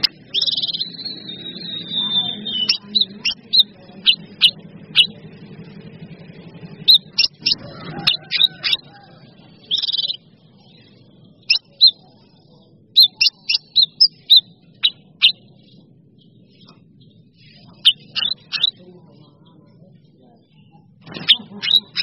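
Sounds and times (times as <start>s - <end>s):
buzzy bird trill: 0.0s - 19.0s, 20.5s - 22.0s
birds chipping and whistling: 0.0s - 22.0s.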